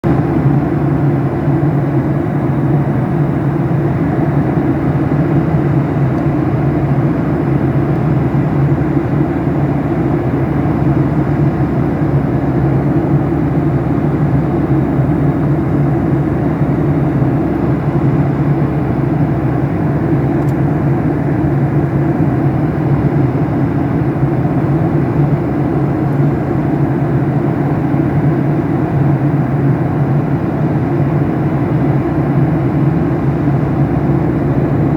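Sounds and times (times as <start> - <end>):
airliner cabin engine drone: 0.0 - 34.9.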